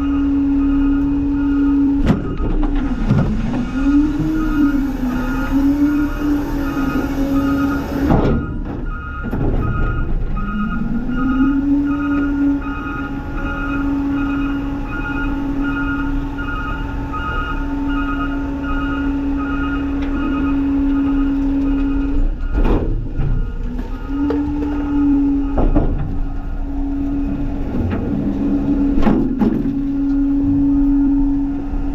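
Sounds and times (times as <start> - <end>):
reversing alarm beeping: 0.0 - 27.7
truck engine running: 0.0 - 31.9.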